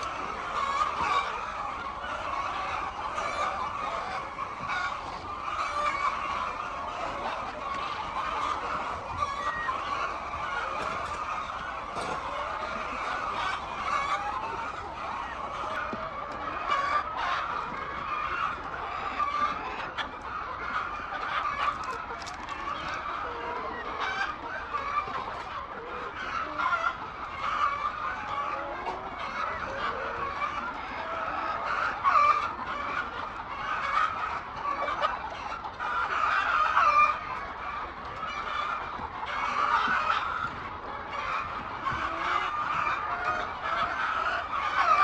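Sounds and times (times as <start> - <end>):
hens clucking: 0.0 - 45.0.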